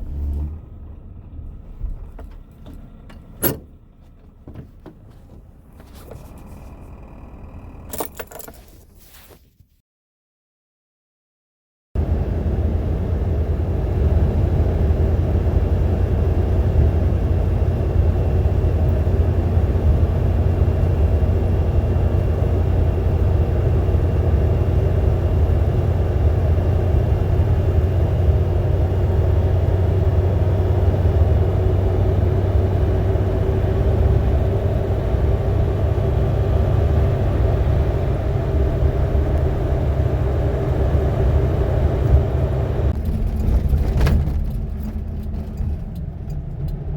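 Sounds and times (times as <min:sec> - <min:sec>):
car engine and road rumble: 0:00.0 - 0:09.8, 0:12.0 - 0:46.9.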